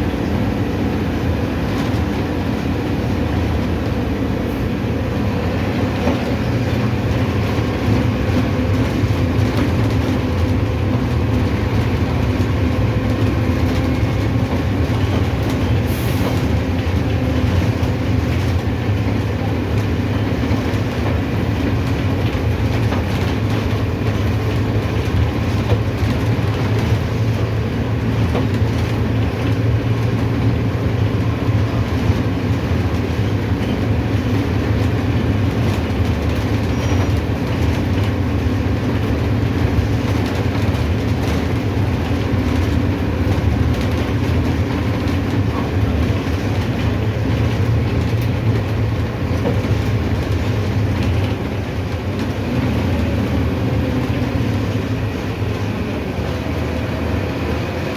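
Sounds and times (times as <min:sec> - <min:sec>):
bus diesel engine drone: 0:00.0 - 0:57.9
road and body noise: 0:00.0 - 0:57.9.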